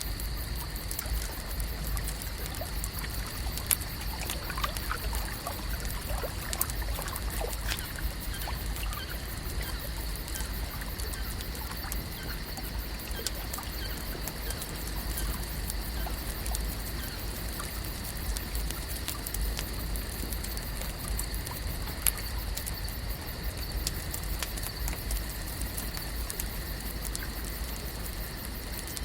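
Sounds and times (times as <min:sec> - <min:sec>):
water ticks and patters: 0:00.0 - 0:29.0.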